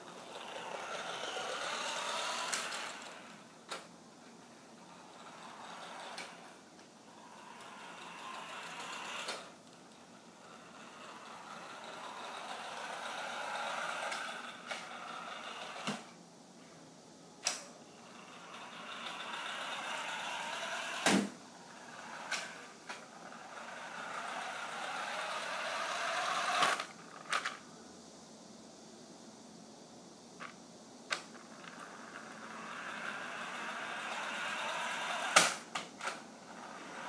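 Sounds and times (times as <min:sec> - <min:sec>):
toy car motor whirring: 0:00.0 - 0:03.4, 0:04.8 - 0:16.2, 0:18.0 - 0:27.6, 0:30.4 - 0:37.0.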